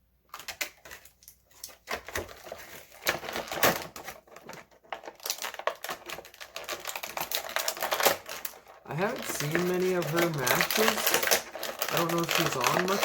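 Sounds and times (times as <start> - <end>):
plastic packaging crinkling: 0.3 - 13.0.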